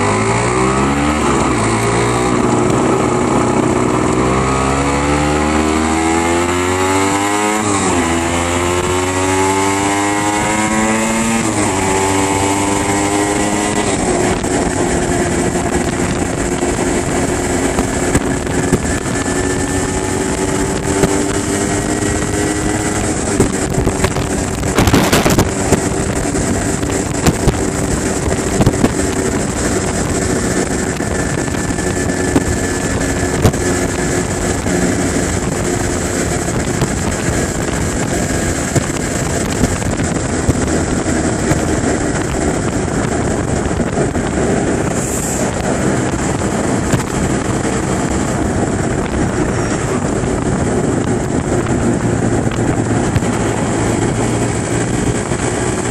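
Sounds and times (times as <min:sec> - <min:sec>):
two-stroke motorcycle engine running: 0:00.0 - 0:55.9
wind buffeting on microphone: 0:00.0 - 0:55.9.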